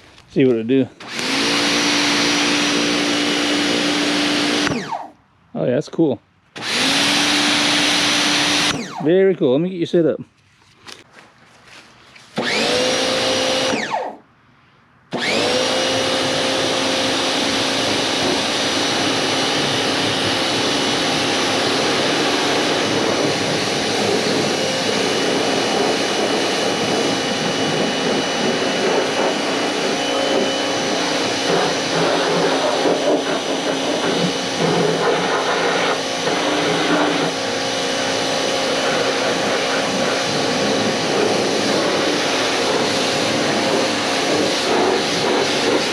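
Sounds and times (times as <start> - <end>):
pressure washer motor whining: 0.9 - 5.2, 6.6 - 9.2, 12.3 - 14.2, 15.1 - 45.9.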